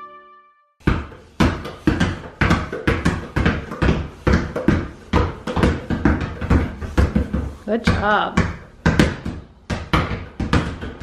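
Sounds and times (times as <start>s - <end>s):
balls bouncing on tile floor: 0.8s - 11.0s.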